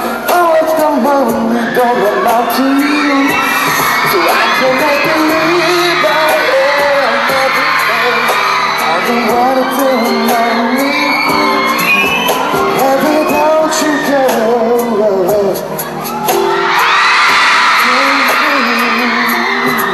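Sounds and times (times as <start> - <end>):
man singing into microphone: 0.0 - 15.9, 17.7 - 19.9
backing track with beat: 0.0 - 19.9.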